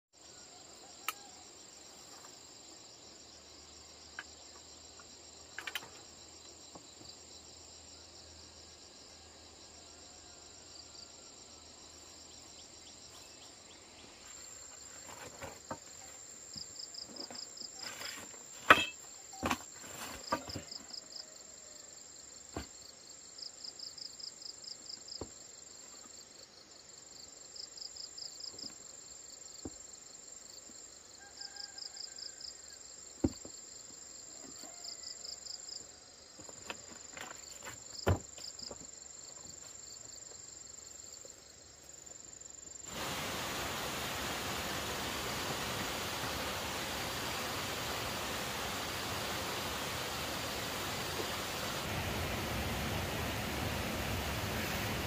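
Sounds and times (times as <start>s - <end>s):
crickets buzzing: 0.2s - 55.0s.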